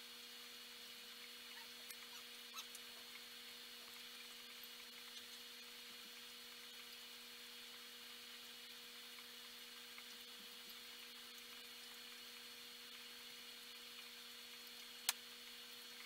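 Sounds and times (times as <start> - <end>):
aquarium equipment hum: 0.0 - 16.0.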